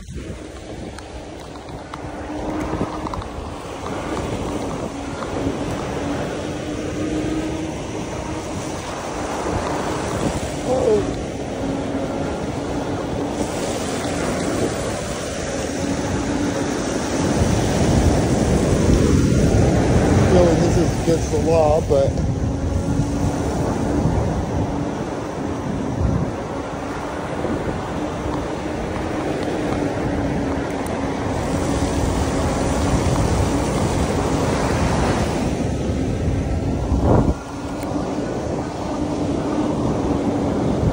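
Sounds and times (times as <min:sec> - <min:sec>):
ocean surf washing: 0:00.0 - 0:40.9
wind rushing over microphone: 0:00.0 - 0:40.9.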